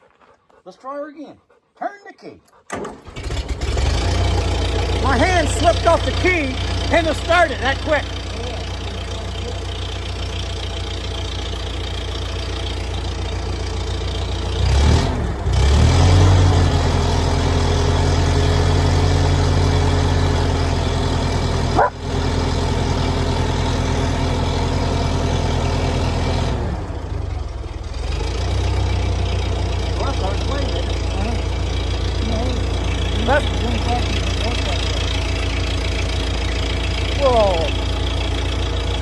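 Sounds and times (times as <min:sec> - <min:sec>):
engine idling and revving: 0:02.7 - 0:39.0.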